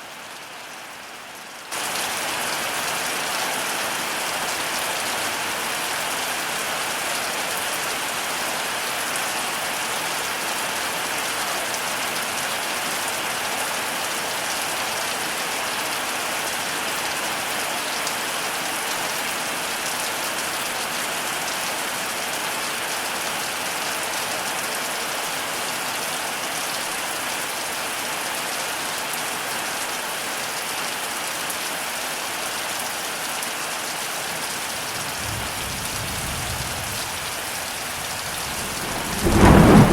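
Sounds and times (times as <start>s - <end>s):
heavy rain falling: 1.8s - 39.9s.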